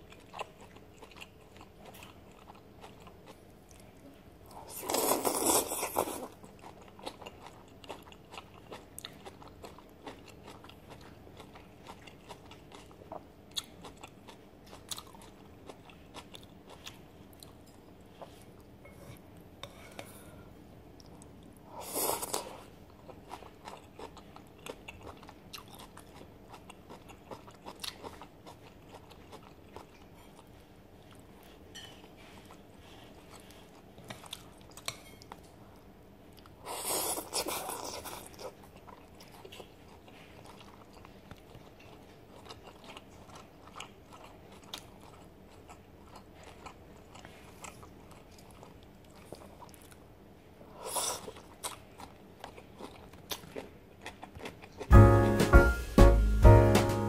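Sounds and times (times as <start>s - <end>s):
chewing noodles: 0.0s - 18.7s, 21.0s - 35.5s, 36.3s - 50.1s, 50.8s - 54.9s.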